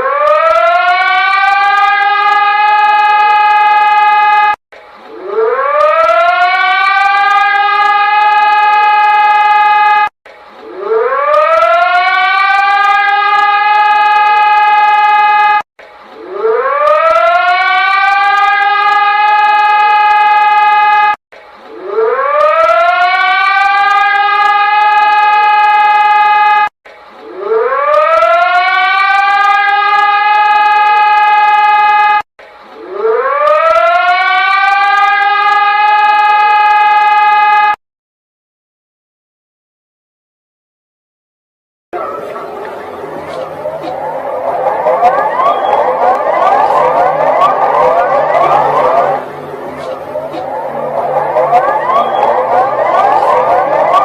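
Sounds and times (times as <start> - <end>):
rising alarm siren: 0.0 - 32.2, 32.8 - 37.8, 42.0 - 54.0.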